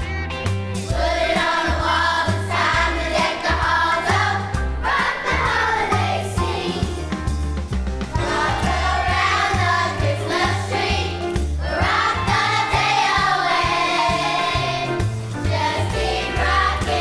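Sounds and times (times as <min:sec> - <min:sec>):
bass line: 0:00.0 - 0:17.0
drum beat: 0:00.8 - 0:17.0
children's choir singing: 0:00.9 - 0:07.0, 0:08.1 - 0:17.0.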